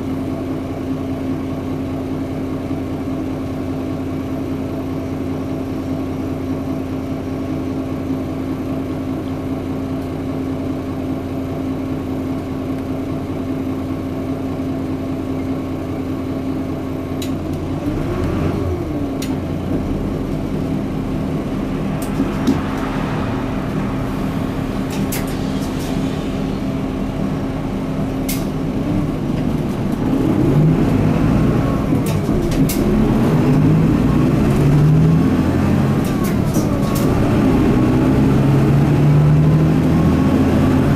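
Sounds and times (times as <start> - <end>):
bus diesel engine: 0.0 - 40.9.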